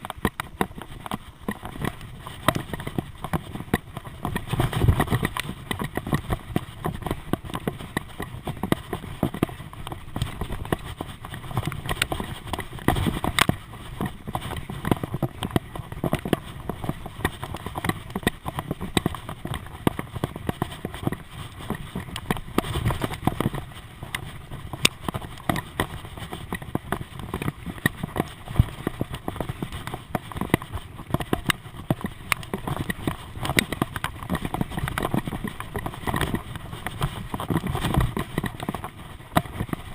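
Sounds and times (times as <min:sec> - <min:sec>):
bicycle rattling and knocking: 0:00.0 - 0:39.9.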